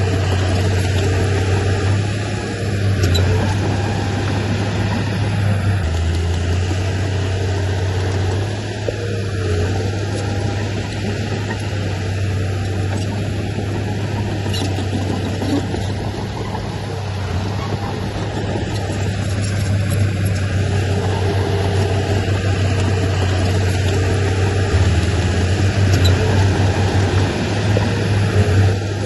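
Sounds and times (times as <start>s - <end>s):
diesel engine droning: 0.0s - 29.0s.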